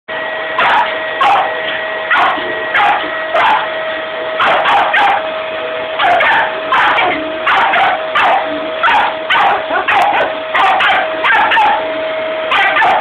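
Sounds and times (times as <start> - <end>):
vacuum cleaner motor whine: 0.1 - 13.0
small dog barking: 0.6 - 3.8, 4.4 - 5.3, 6.0 - 11.9, 12.5 - 13.0.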